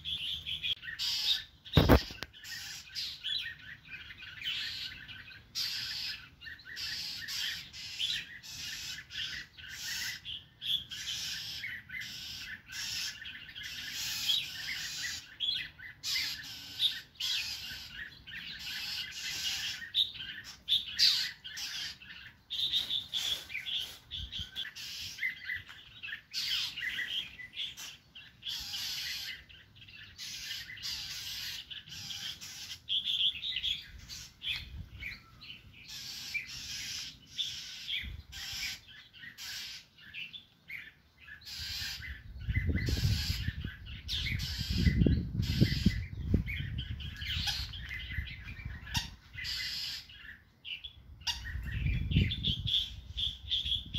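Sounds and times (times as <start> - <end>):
songbirds chip calls: 0.0 - 53.9.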